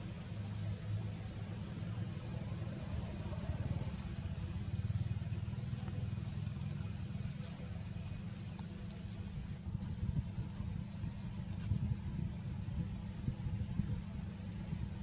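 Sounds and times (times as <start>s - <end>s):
motor engine rumbling: 0.0s - 15.0s.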